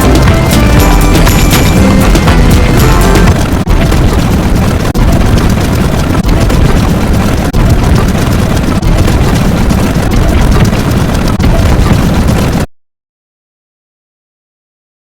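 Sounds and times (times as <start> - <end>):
loud distorted repeating noise: 0.0 - 12.7.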